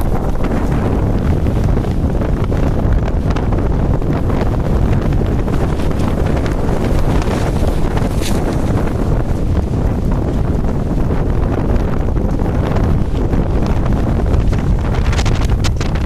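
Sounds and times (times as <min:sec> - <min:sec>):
wind blowing against microphone: 0:00.0 - 0:16.0.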